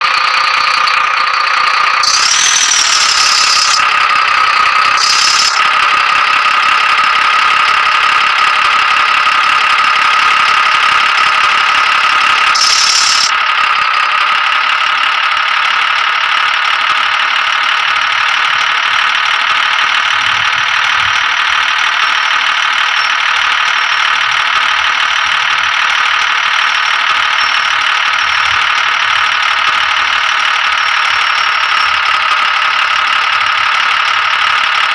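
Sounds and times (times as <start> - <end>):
tractor engine whine: 0.0 - 34.9.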